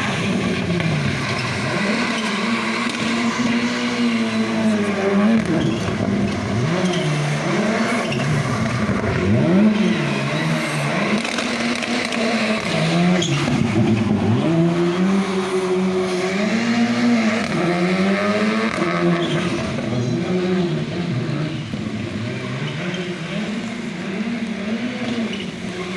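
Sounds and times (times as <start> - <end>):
rally car engine revving: 0.0 - 25.9.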